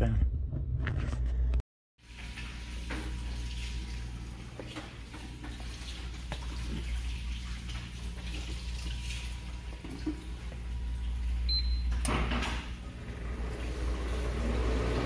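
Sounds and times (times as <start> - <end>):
vending machine humming: 2.0 - 15.0.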